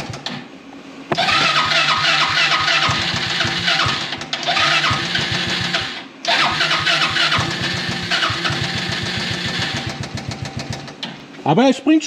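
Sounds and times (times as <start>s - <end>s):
engine cranking and starting: 1.1s - 11.1s.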